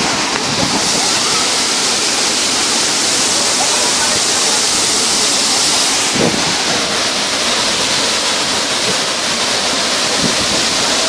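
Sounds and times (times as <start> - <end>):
waterfall rushing over rock: 0.0 - 11.0.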